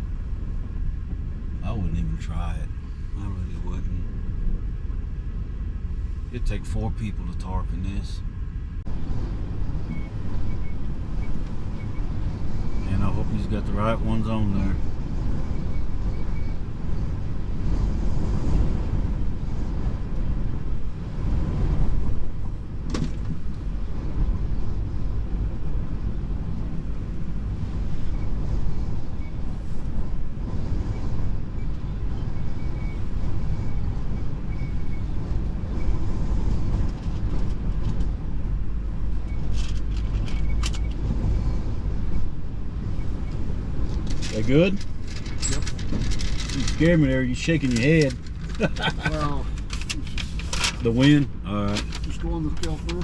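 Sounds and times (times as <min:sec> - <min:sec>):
truck engine rumbling: 0:00.0 - 0:53.0
wind buffeting: 0:08.2 - 0:53.0.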